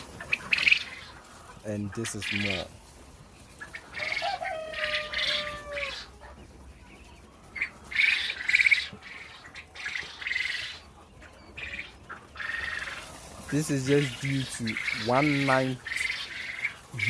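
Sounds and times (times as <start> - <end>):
quail chicks chirping: 0.0 - 17.0.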